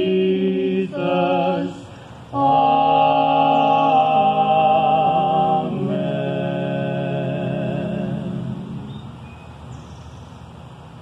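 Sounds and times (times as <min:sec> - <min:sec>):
person singing: 0:00.0 - 0:08.9
long held chord: 0:00.0 - 0:09.1.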